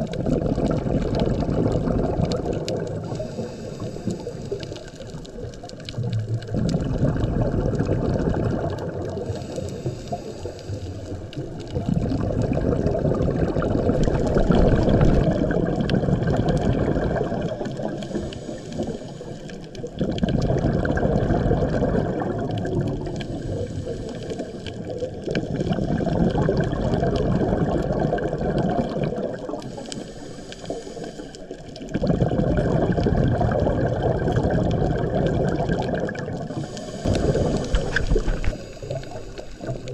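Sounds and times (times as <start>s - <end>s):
underwater exhaled bubbles gurgling: 0.0s - 39.9s.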